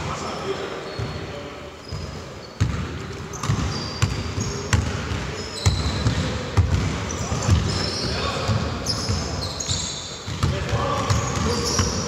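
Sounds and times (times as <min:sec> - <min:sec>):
sneaker squeaks: 0:00.1 - 0:12.0
basketball bouncing on court: 0:01.8 - 0:12.0.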